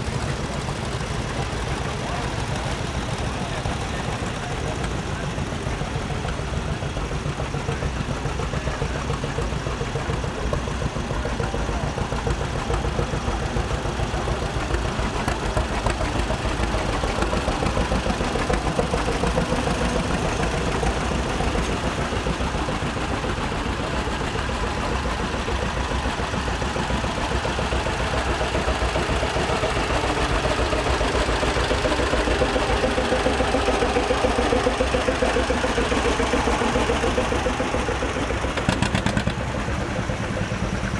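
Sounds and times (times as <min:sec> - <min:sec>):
tractor engines rumbling: 0:00.0 - 0:40.9.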